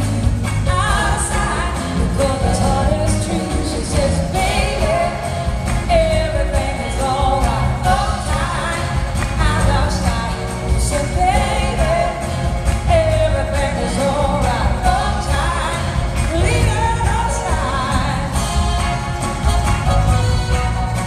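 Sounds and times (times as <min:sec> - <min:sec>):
driving drum kit: 0:00.0 - 0:21.0
electric guitar: 0:00.0 - 0:21.0
woman singing lead: 0:00.0 - 0:21.0.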